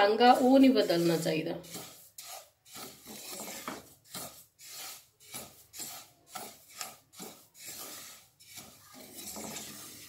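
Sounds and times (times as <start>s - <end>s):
spatula scraping seeds in pan: 0.0s - 10.0s.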